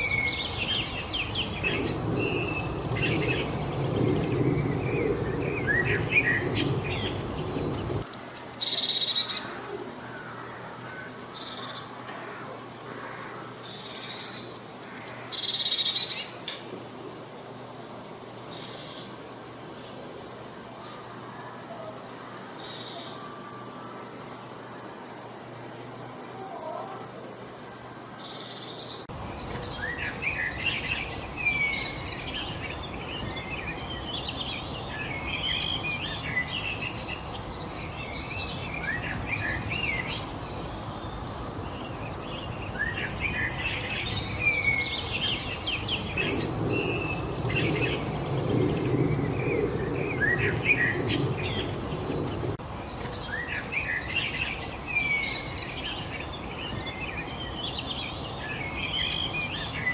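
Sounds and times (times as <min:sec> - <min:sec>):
songbirds chirping and singing: 0:00.0 - 0:16.6, 0:17.3 - 0:59.9.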